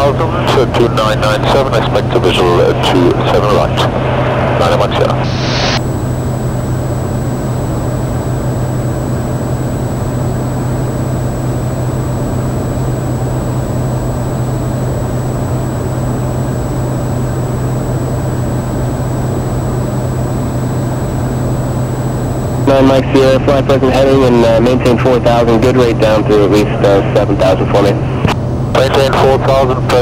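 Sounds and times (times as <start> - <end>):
turboprop engine drone: 0.0 - 30.0.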